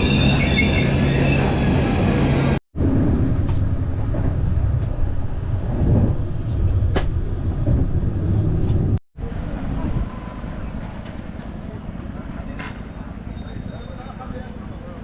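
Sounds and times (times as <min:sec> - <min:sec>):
rail vehicle rumbling: 0:00.0 - 0:15.0.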